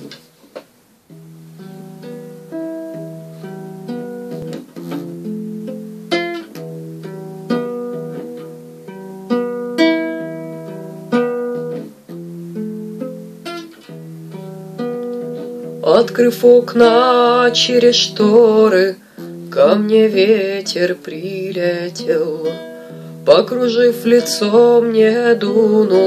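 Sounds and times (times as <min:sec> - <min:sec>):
picked guitar notes: 0:01.1 - 0:26.0.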